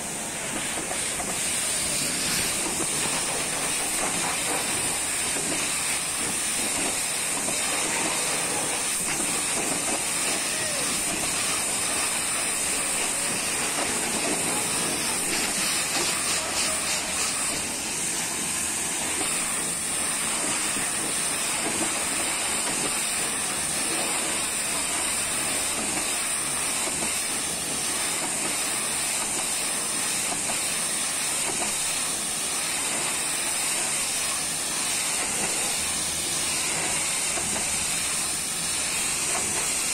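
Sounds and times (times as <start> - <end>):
pressure washer water jet hissing: 0.0 - 39.9.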